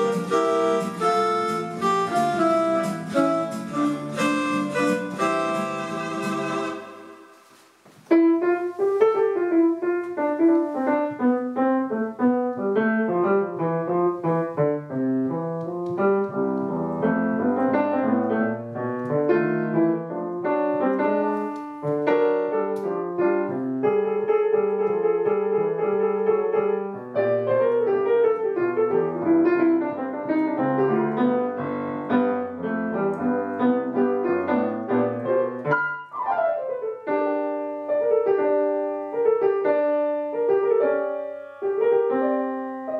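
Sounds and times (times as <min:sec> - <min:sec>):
solo piano music: 0:00.0 - 0:42.9.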